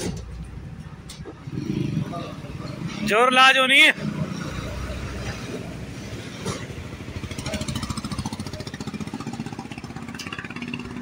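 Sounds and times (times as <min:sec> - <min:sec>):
street traffic passing: 0:00.0 - 0:11.0.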